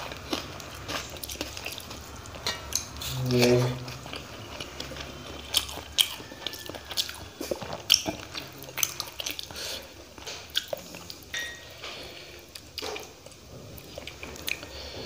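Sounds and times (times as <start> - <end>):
chewing and mouth sounds: 0.0 - 15.0.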